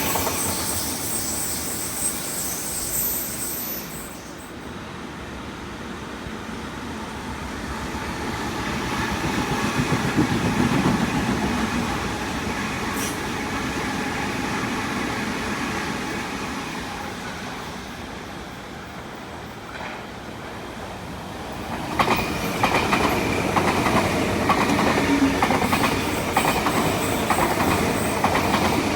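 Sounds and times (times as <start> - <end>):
train rumble passing: 4.6 - 28.9.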